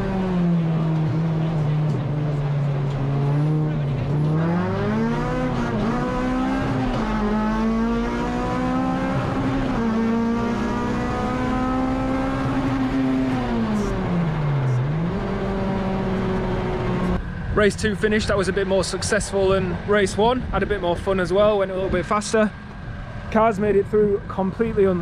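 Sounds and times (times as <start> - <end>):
race car engine at high revs: 0.0 - 20.5.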